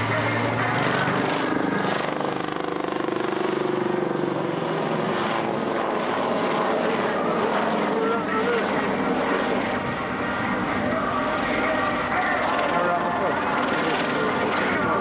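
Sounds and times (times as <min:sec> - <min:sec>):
helicopter rotor and turbine: 0:00.0 - 0:15.0.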